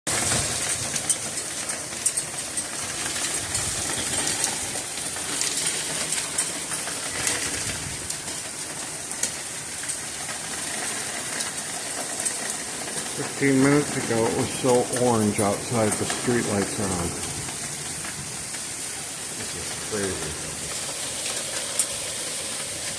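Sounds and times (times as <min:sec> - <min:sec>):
hailstones ticking on hard surfaces: 0:00.1 - 0:22.9
heavy hail falling: 0:00.1 - 0:22.9.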